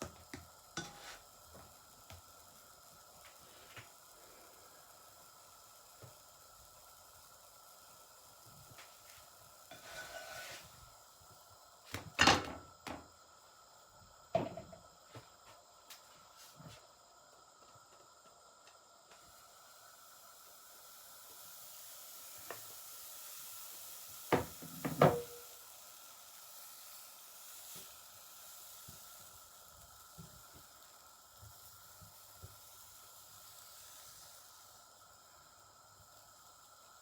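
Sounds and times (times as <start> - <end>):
pancake sizzling in a pan: 0.0 - 37.0.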